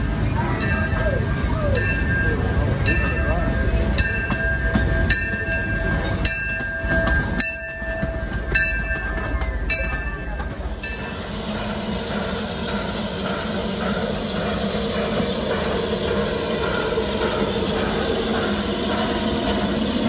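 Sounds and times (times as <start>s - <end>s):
steam locomotive hiss and rumble: 0.0s - 20.0s
train wheels clicking over rail joints: 0.0s - 20.0s.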